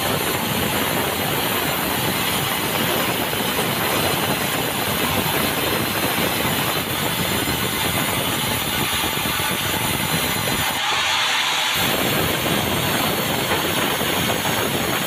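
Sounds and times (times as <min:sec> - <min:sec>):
sawmill machine noise: 0:00.0 - 0:15.0.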